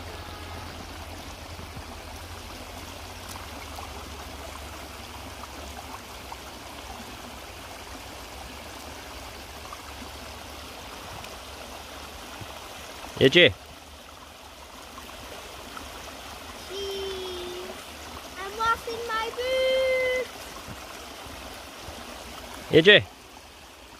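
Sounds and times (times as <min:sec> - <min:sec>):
stream running over stones: 0:00.0 - 0:23.9.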